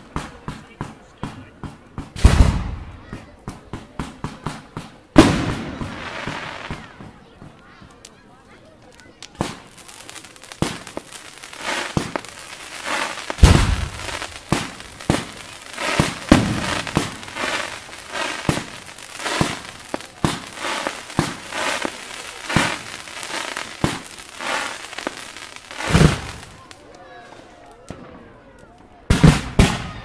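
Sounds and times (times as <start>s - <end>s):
fireworks launches and bursts: 0.0s - 27.0s, 29.0s - 30.0s
fireworks crackling: 0.0s - 27.9s, 28.5s - 30.0s.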